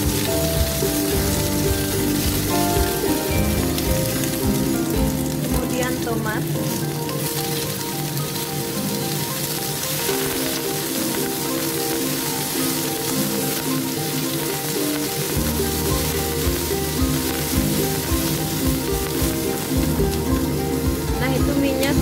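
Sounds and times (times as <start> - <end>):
background music: 0.0 - 22.0
onions sizzling in hot oil: 0.0 - 22.0.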